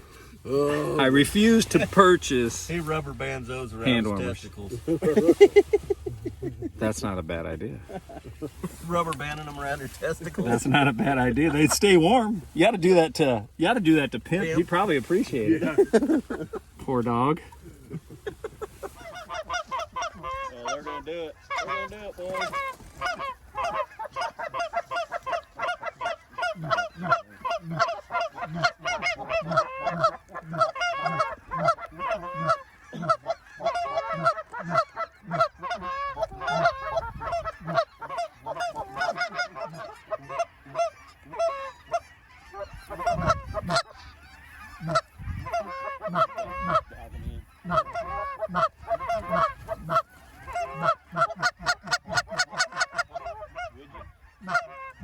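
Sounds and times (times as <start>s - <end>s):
geese yelping and honking: 0.0s - 6.9s, 7.8s - 55.0s.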